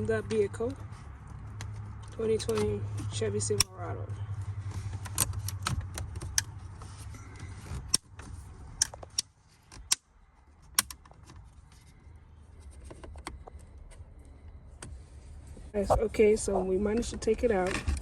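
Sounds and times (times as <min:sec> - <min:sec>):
fumbling with plastic parts: 0:00.3 - 0:15.7.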